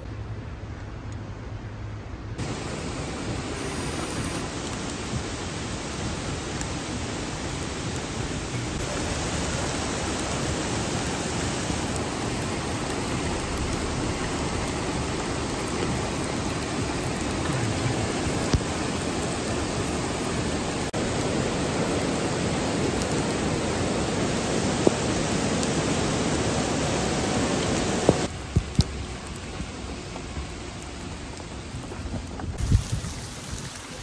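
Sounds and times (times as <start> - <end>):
rushing floodwater: 2.3 - 34.0
heavy rain hissing: 2.4 - 34.0.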